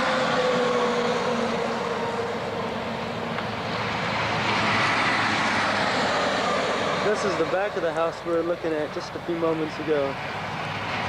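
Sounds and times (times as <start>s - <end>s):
highway traffic rushing: 0.0s - 11.0s
vehicle passing by: 0.0s - 11.0s.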